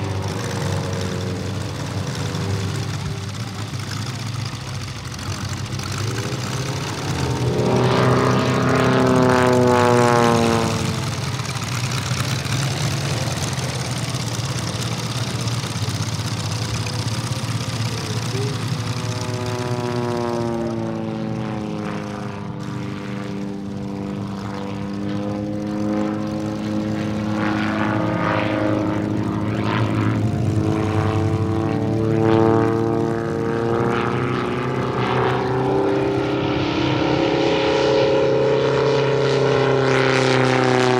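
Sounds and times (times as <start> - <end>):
radial engine running in flight: 0.0 - 40.9.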